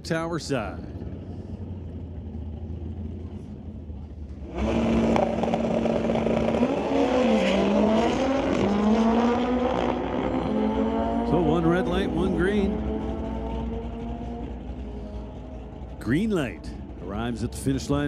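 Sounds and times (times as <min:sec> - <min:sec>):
motorcycle engines revving: 0:00.9 - 0:18.0.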